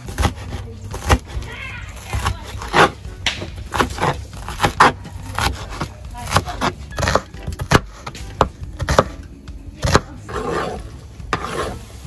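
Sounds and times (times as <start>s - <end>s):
knife chopping on wooden board: 0.0s - 1.4s, 2.1s - 11.8s
knife scraping across board: 0.0s - 9.2s, 9.8s - 12.0s.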